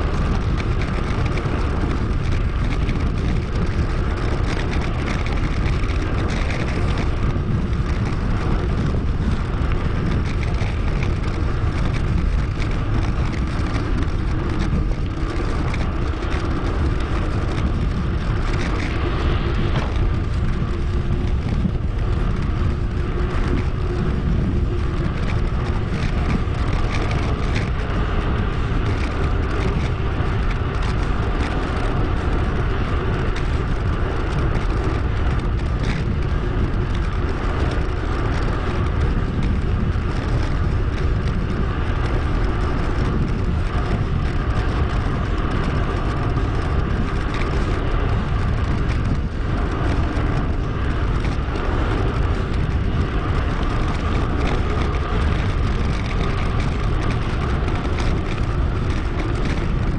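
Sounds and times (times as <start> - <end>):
tyre and road noise: 0.0 - 59.9
wind rush on microphone: 0.0 - 59.9.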